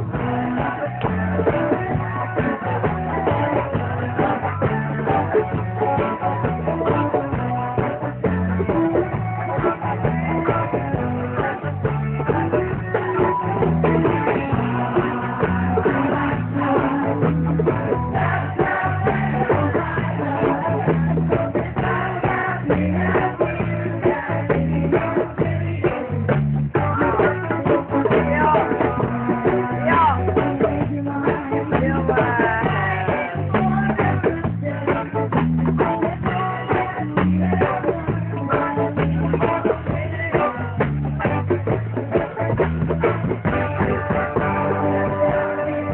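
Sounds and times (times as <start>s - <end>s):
bass line: 0.0s - 45.9s
drum kit beat: 0.0s - 45.9s
electric guitar: 0.0s - 45.9s
live rock band: 0.0s - 45.9s.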